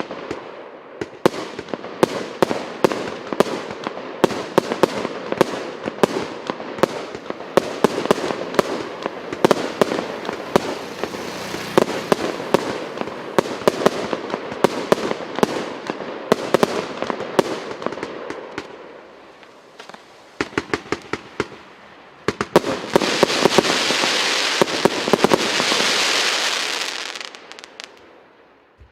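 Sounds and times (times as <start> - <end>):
firework launches and aerial bangs: 1.0 - 28.0
firework crackling hiss: 1.4 - 28.2.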